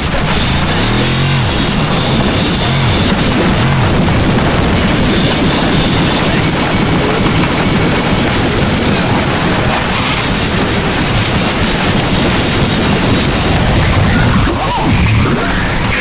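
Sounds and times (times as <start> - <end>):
harsh distorted noise music: 0.0 - 16.0.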